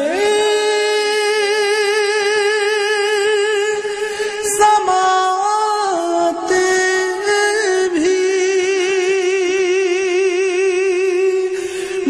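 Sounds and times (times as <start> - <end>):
solo voice singing devotional song: 0.0 - 12.0.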